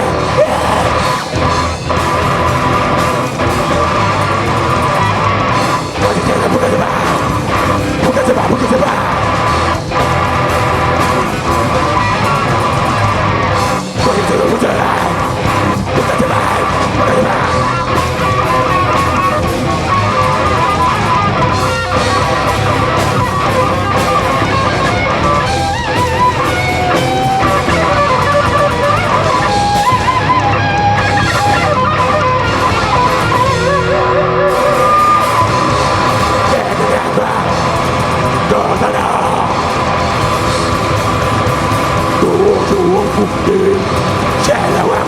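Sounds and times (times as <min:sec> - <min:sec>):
heavy rock band playing: 0:00.0 - 0:45.0
lead guitar melody bending: 0:00.0 - 0:45.0.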